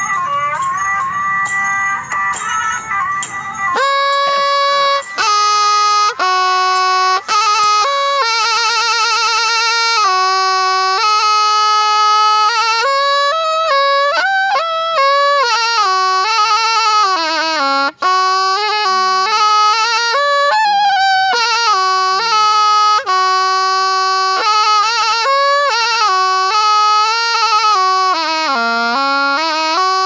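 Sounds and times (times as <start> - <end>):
reed oboe solo melody: 0.0 - 30.0.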